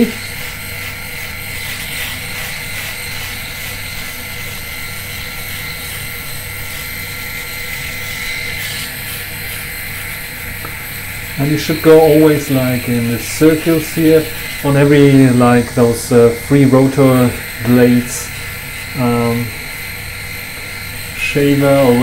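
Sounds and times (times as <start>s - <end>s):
electric shaver humming: 0.0s - 22.0s.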